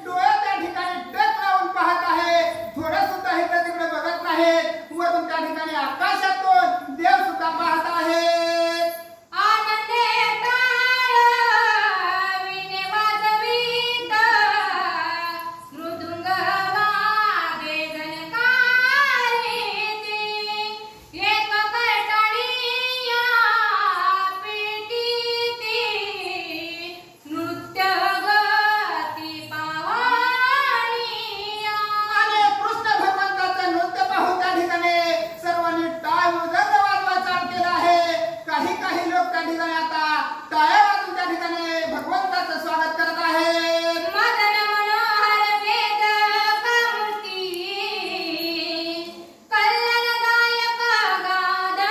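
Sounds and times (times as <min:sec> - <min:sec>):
woman singing: 0:00.0 - 0:51.9.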